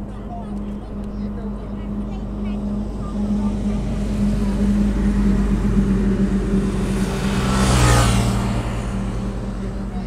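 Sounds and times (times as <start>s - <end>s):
steady engine drone: 0.0s - 10.0s
vehicle passing: 0.0s - 10.0s.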